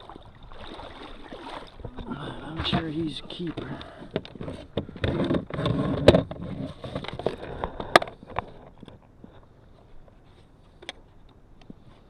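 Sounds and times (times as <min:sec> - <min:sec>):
rustling and clattering on kayak: 0:00.0 - 0:12.0.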